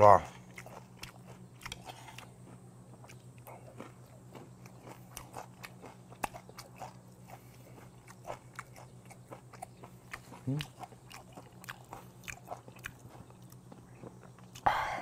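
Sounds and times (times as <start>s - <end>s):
person chewing with crunching: 0.0s - 15.0s.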